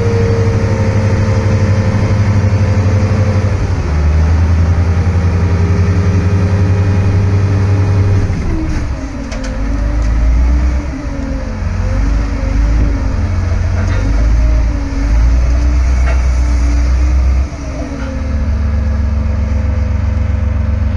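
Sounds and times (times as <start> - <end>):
diesel truck engine revving: 0.0 - 20.9.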